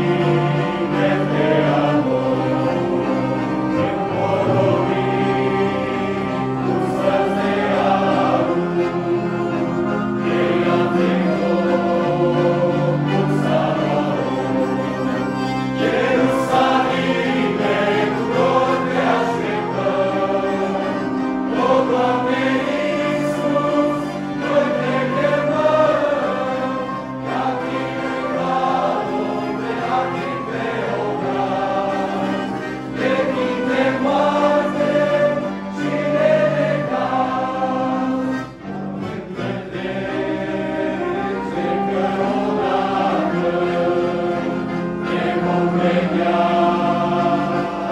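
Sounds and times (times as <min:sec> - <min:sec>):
accordions playing held chords: 0:00.0 - 0:47.9
male choir singing a hymn: 0:00.0 - 0:47.9.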